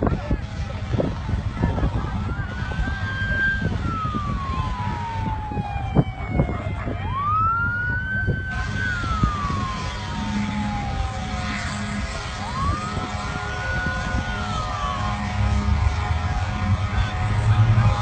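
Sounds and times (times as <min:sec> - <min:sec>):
emergency siren wailing: 0:01.2 - 0:18.0.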